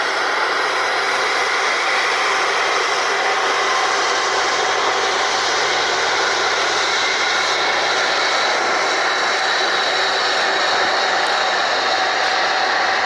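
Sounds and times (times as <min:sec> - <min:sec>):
faint high whining: 0:00.0 - 0:13.0
jet engines running: 0:00.0 - 0:13.0.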